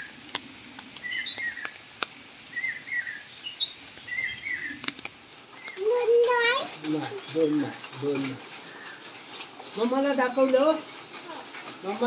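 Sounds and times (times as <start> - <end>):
bird chirping: 1.0 - 1.8, 2.5 - 12.0.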